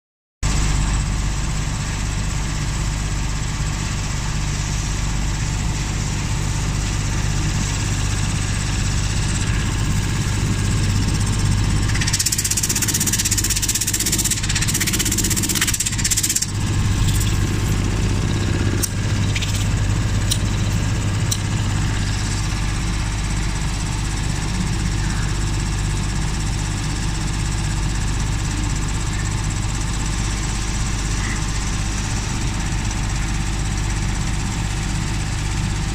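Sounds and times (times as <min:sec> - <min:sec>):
air compressor motor humming: 0:00.5 - 0:35.9.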